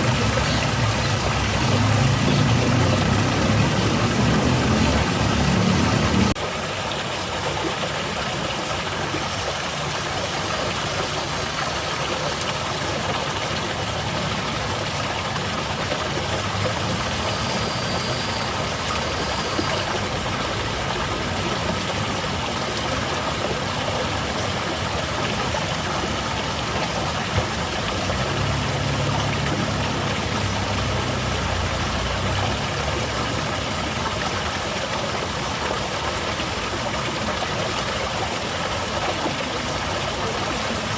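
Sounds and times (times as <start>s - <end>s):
waterfall splashing: 0.0s - 40.9s.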